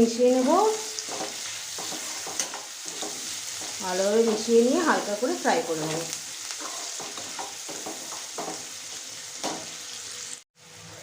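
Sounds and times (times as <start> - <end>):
vegetables sizzling in oil: 0.0 - 11.0
spatula scraping pan: 0.2 - 9.8.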